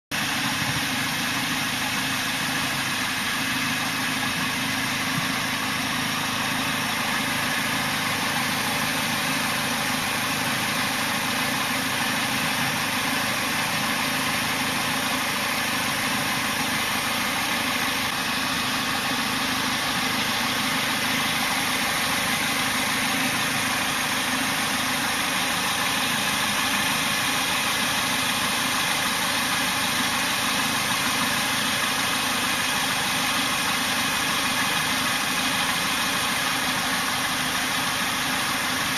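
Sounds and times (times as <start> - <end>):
car engine idling: 0.1 - 38.9.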